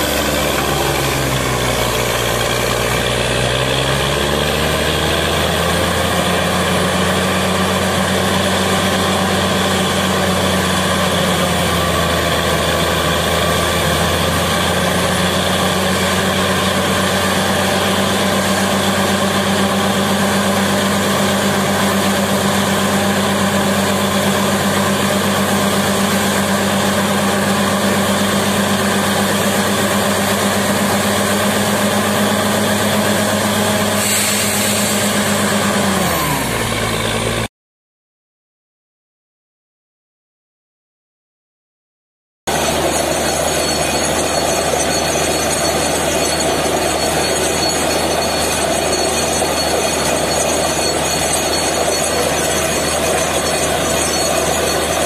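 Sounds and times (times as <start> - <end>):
drilling rig engine running: 0.0 - 37.5, 42.5 - 55.0.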